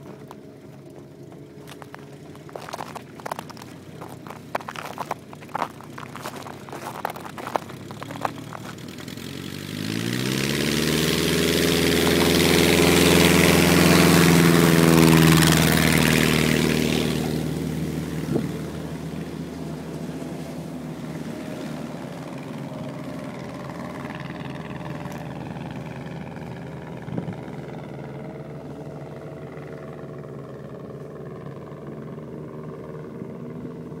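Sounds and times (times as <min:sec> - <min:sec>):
small plane engine: 0:00.0 - 0:34.0.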